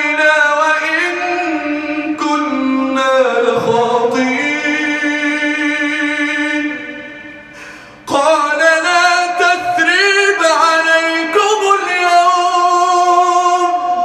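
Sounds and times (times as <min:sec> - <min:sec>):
man chanting recitation: 0:00.0 - 0:07.0, 0:08.1 - 0:14.0.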